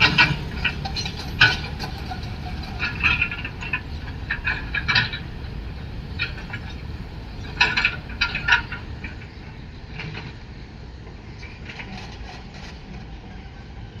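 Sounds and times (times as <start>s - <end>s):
freight train rumble: 0.0s - 14.0s
train wheel clatter: 0.0s - 14.0s.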